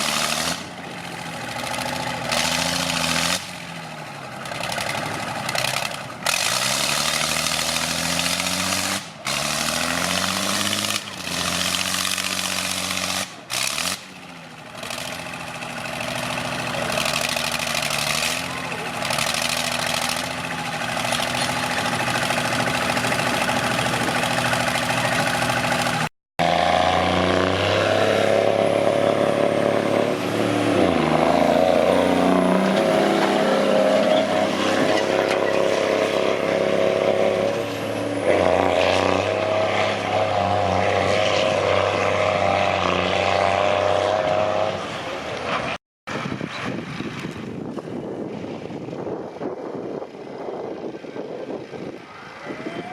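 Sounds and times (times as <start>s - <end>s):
tractor engine under load: 0.0s - 42.7s, 43.4s - 52.9s.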